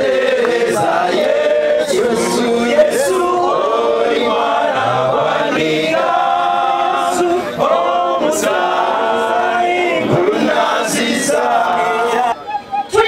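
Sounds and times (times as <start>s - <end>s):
choir singing: 0.0s - 12.4s.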